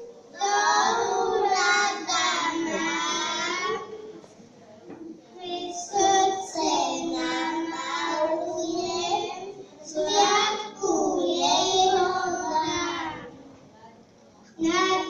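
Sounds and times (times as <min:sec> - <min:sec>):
young children singing: 0:00.0 - 0:04.3, 0:04.9 - 0:13.6, 0:14.6 - 0:15.0.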